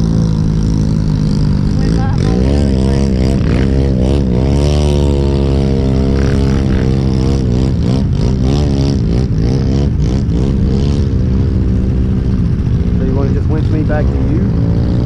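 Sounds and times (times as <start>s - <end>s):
atv engine idling: 0.0s - 8.2s, 9.3s - 15.0s
atv engine revving: 0.0s - 15.0s.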